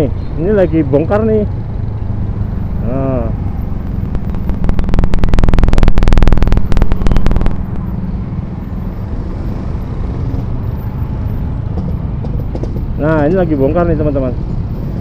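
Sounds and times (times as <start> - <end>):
motorbike traffic: 0.0 - 15.0.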